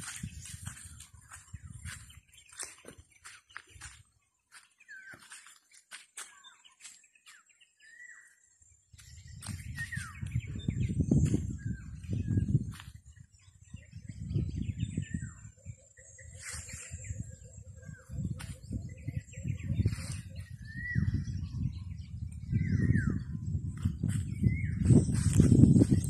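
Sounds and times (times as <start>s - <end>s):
wind buffeting microphone: 0.0s - 4.2s, 8.8s - 26.0s
small birds chirping: 0.0s - 26.0s.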